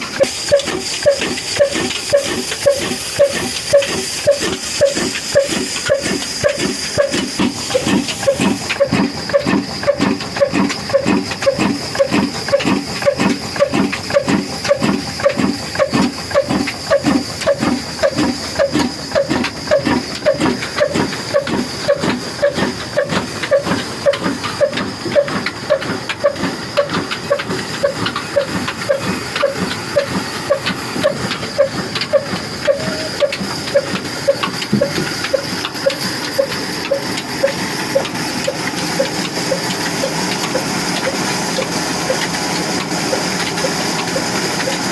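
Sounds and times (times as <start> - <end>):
old engine running slowly: 0.0 - 44.9.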